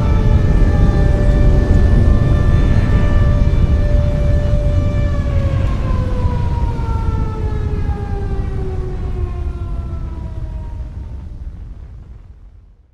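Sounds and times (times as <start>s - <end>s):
warning siren winding down: 0.0s - 11.2s
heavy low rumble: 0.0s - 12.9s.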